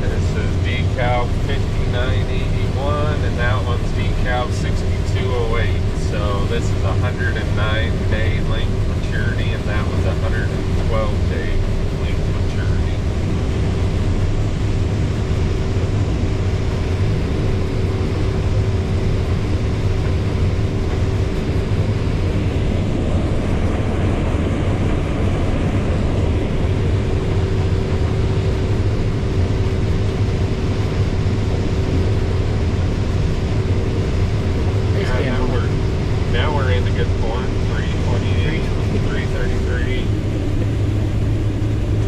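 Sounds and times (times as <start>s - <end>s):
combine harvester drone: 0.0s - 42.0s.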